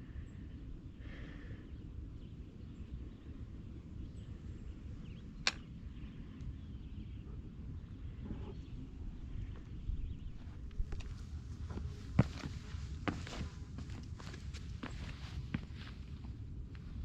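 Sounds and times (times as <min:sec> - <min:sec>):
wind buffeting microphone: 0:01.7 - 0:17.0.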